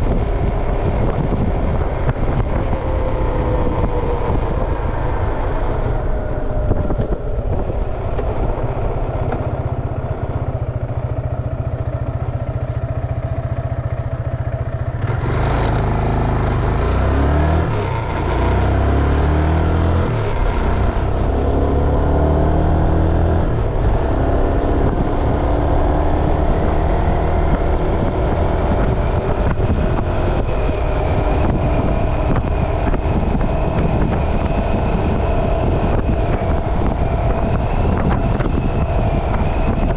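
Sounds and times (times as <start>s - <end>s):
vehicle engine running: 0.0s - 39.9s
wind and road noise: 0.0s - 39.9s.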